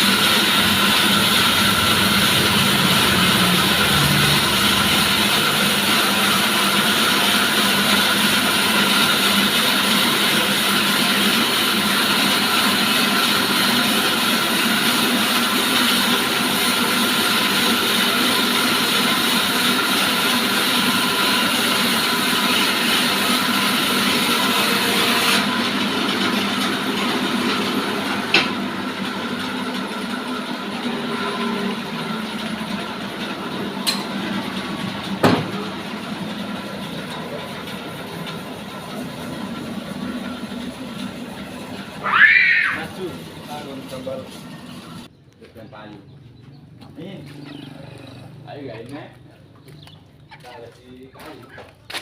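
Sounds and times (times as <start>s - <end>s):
sawmill machine whining: 0.0s - 45.1s.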